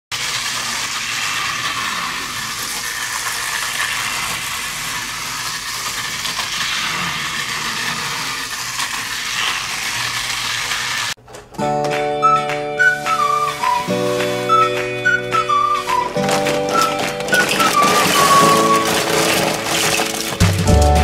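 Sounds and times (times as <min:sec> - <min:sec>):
toy train motors whirring: 0:00.1 - 0:11.2, 0:12.8 - 0:21.0.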